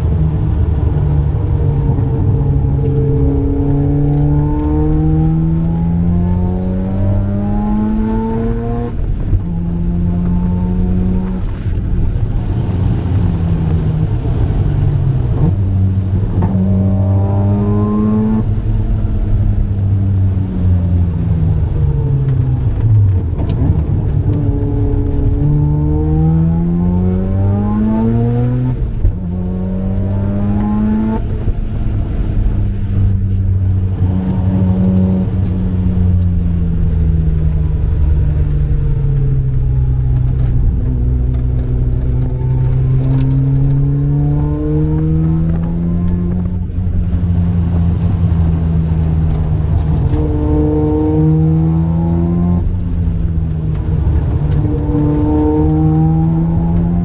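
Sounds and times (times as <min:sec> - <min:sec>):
rotary engine accelerating: 0:00.0 - 0:57.0.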